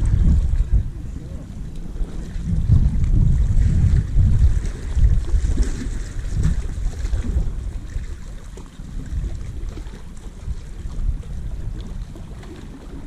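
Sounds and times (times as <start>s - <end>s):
sea washing against rocks: 0.0s - 13.0s
wind buffeting microphone: 0.0s - 13.0s.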